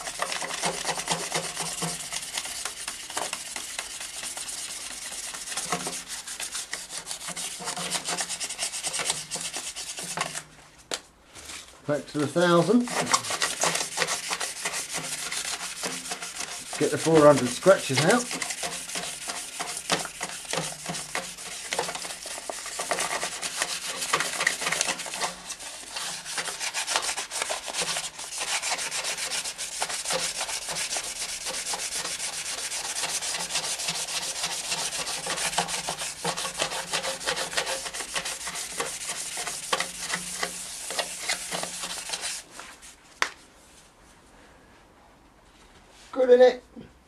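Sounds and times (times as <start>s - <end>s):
sandpaper sanding metal: 0.0s - 10.4s, 12.4s - 42.9s.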